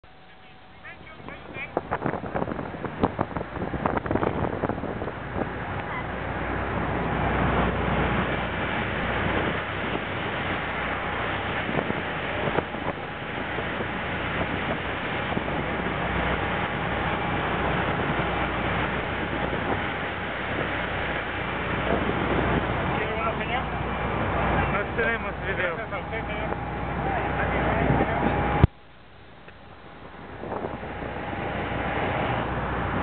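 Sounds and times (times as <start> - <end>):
wind buffeting microphone: 0.0 - 28.8, 29.6 - 33.0
ferry engine drone: 0.0 - 33.0
water churning in wake: 0.0 - 33.0.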